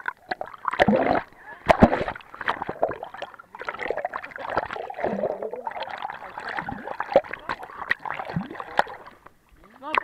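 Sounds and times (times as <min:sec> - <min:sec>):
muffled underwater churning and gurgling: 0:00.0 - 0:09.3.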